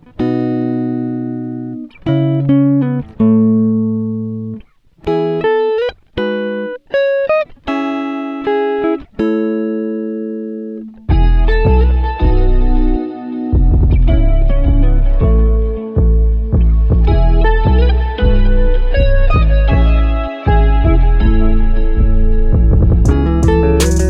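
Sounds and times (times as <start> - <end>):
clean guitar plucking chords: 0.0 - 24.0.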